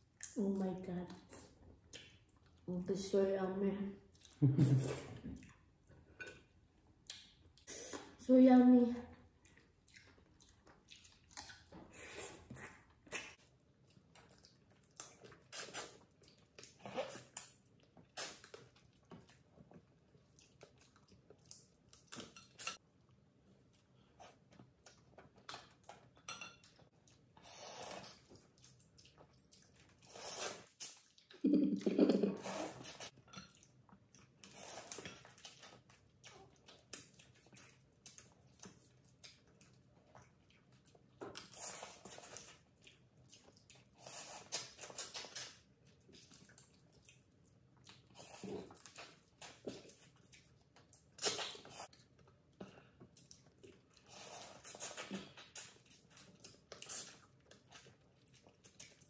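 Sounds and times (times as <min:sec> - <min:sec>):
slurping and chewing: 0:09.4 - 0:22.8, 0:23.7 - 0:31.4, 0:32.3 - 0:59.0.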